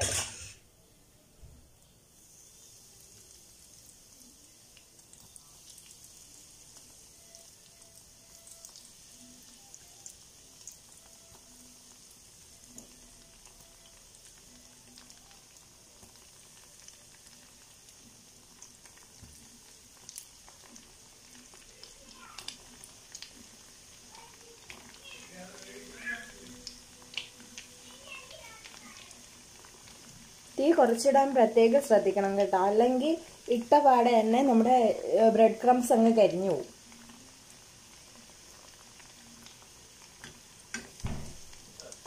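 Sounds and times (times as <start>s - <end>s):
food deep-frying in hot oil: 1.4s - 42.0s.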